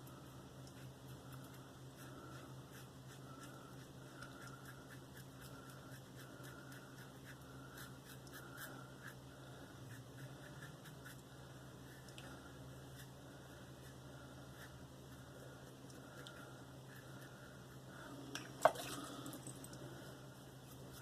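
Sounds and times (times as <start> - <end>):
razor scraping skin: 0.0 - 12.2, 12.8 - 17.8, 20.5 - 21.0
low steady hum: 0.0 - 21.0.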